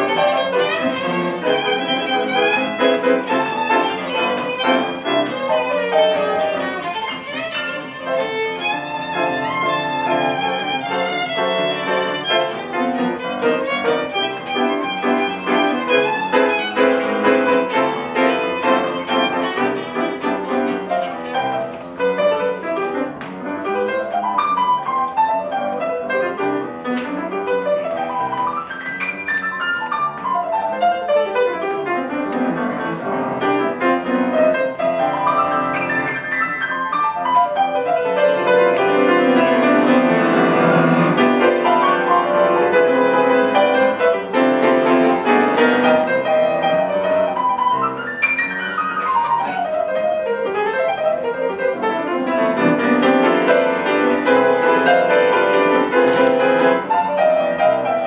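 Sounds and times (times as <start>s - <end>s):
jazz piano solo: 0.0s - 58.0s
violin: 0.0s - 58.0s.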